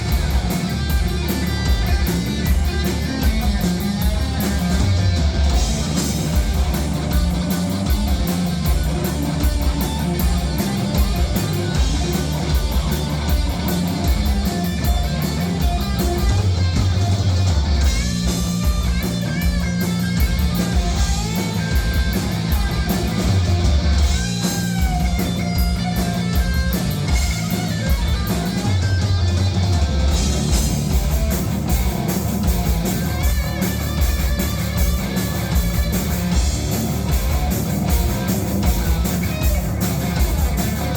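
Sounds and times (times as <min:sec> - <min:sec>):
bass guitar: 0:00.0 - 0:40.9
distorted electric guitars: 0:00.0 - 0:40.9
drum kit beat: 0:00.0 - 0:40.9.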